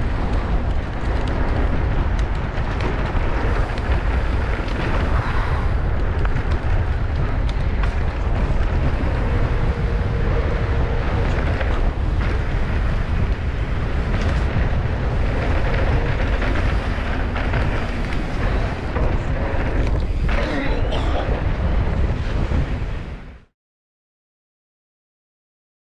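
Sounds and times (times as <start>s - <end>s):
tyres rumbling on dirt: 0.0s - 23.1s
wind buffeting microphone: 0.0s - 23.5s.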